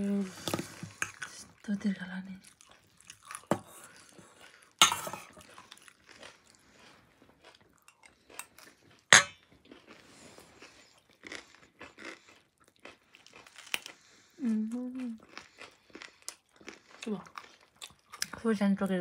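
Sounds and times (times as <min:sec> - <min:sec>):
crunching and chewing snack: 0:02.3 - 0:18.4.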